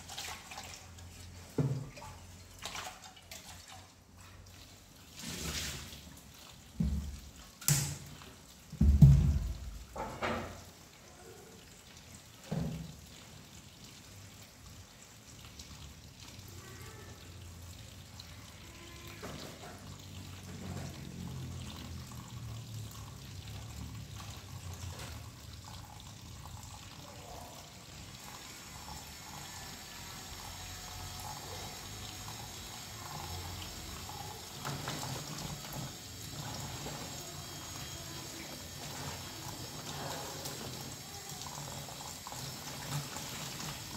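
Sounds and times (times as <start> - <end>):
tap running into basin: 0.0 - 4.0, 4.8 - 11.1, 11.9 - 16.6, 17.2 - 43.9.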